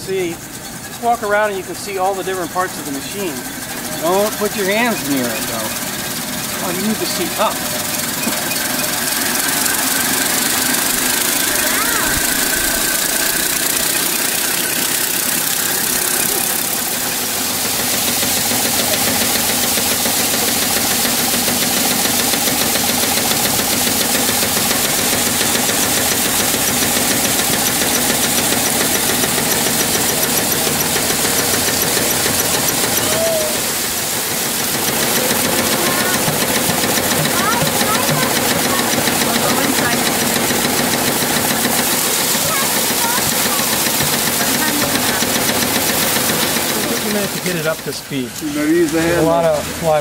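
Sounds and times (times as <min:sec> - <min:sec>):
threshing machine rattling and whirring: 0:00.0 - 0:50.0.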